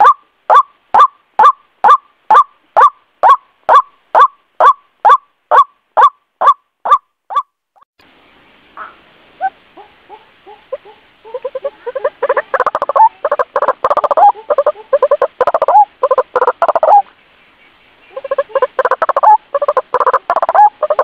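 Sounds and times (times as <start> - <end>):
waterhen calling: 0.0 - 21.0.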